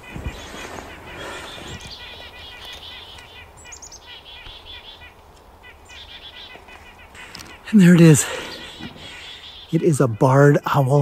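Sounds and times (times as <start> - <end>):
chickadees calling: 0.0 - 11.0.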